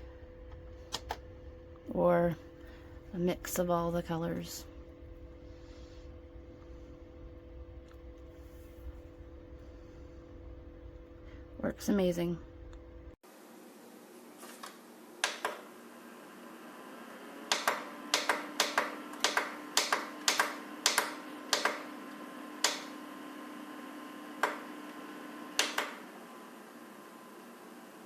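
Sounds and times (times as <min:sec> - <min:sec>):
dehumidifier humming: 0:00.0 - 0:28.0.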